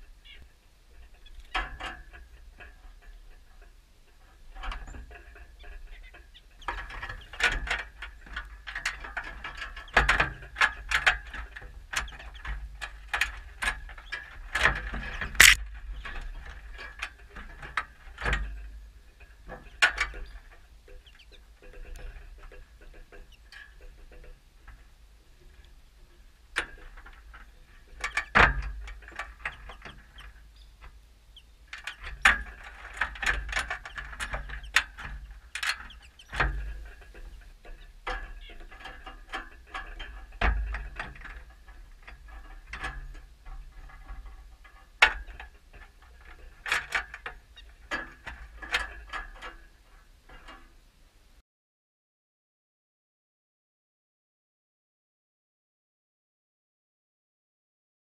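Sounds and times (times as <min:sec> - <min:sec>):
birds pecking at wire feeder: 0:00.9 - 0:49.6.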